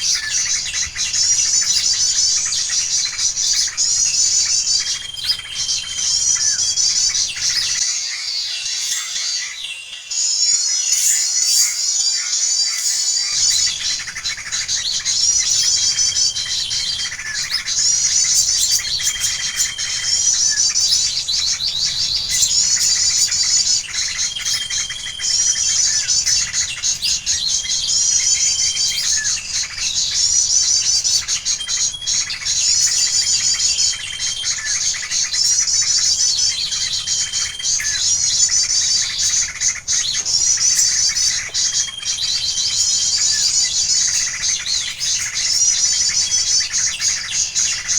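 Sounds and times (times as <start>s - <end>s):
songbird chirping and whistling: 0.0s - 47.9s.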